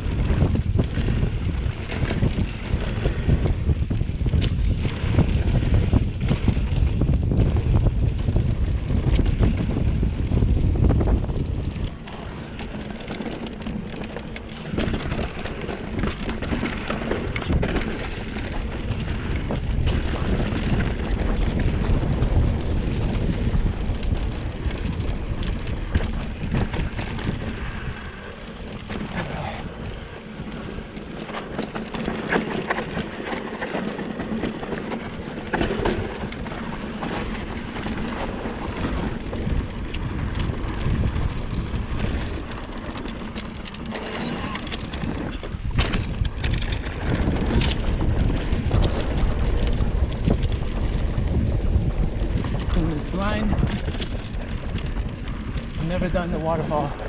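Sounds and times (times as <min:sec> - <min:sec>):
bike knocking and rattling: 0:00.0 - 0:57.0
wind buffeting microphone: 0:00.0 - 0:57.0
tyres rolling over dirt and rocks: 0:08.9 - 0:57.0.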